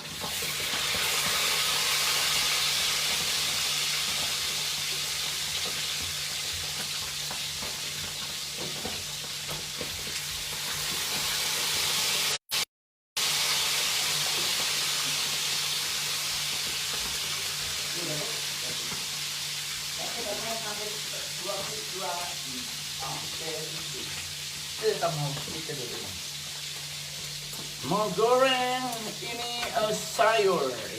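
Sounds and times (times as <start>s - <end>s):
food sizzling in hot oil: 0.0s - 30.9s.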